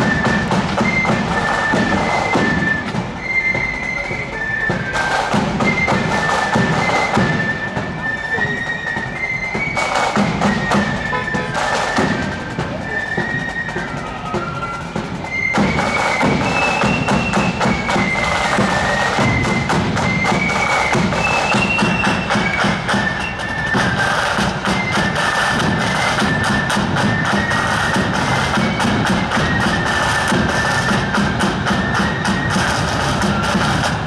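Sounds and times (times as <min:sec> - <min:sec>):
flute melody: 0:00.0 - 0:34.0
snare and bass drums: 0:00.0 - 0:34.0.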